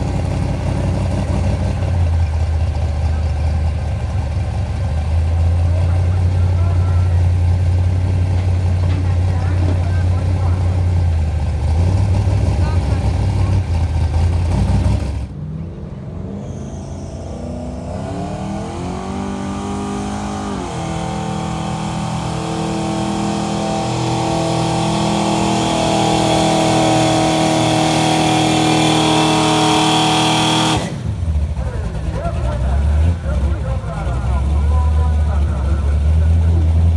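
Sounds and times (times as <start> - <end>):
rough engine rumble: 0.0 - 36.9
truck engine revving under load: 0.0 - 36.9.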